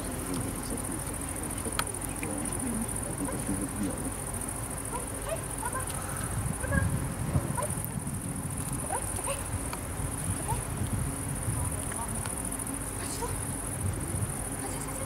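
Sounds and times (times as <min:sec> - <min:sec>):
insects trilling in grass: 0:00.0 - 0:15.0.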